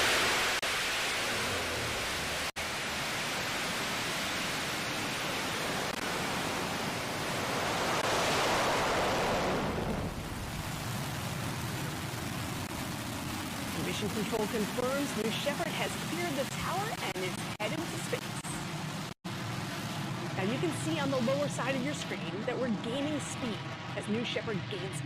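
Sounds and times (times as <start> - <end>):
rocket engine roaring: 0.0 - 25.0.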